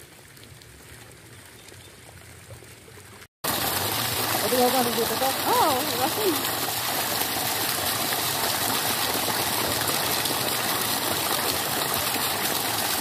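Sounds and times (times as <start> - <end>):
water gushing from a pipe: 0.0 - 13.0
water splashing on muddy ground: 0.0 - 13.0.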